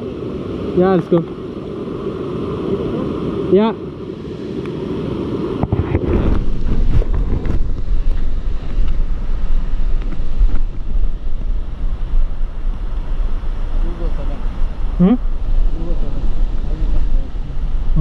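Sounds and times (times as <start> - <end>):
rushing water noise: 0.0 - 18.0
wind buffeting microphone: 0.0 - 18.0.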